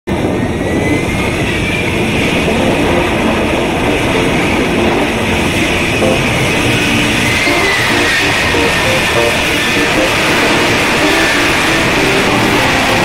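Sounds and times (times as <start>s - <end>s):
jet engine rushing with high whine: 0.1s - 13.0s.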